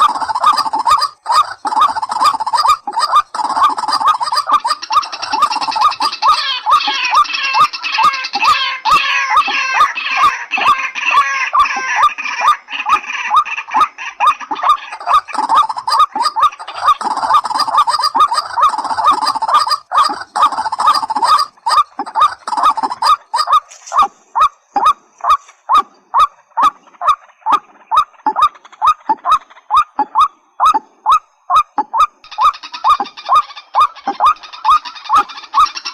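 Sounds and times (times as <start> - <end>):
higher bird warbling: 0.0 - 35.9
repeated honking bird calls: 0.0 - 35.9.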